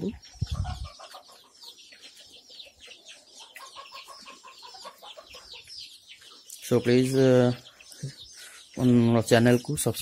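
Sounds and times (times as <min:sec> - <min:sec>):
chickens clucking: 0:00.0 - 0:10.0
chicks peeping: 0:00.0 - 0:10.0.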